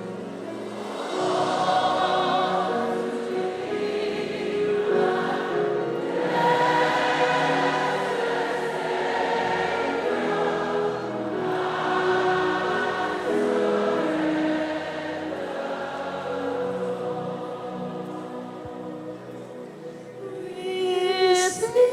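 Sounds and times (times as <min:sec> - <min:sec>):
choir singing long-held chords: 0:00.0 - 0:21.9.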